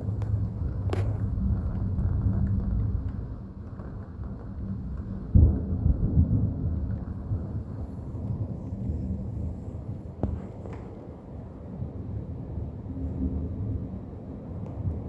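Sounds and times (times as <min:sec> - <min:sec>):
thunder rumbling: 0:00.0 - 0:15.0
thunderclap: 0:00.0 - 0:15.0.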